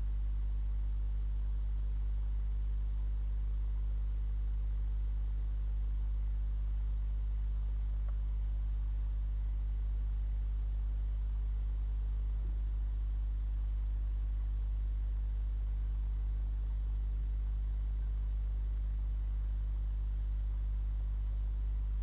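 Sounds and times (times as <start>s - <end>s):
faint microphone hiss: 0.0s - 22.0s
low electrical hum: 0.0s - 22.0s.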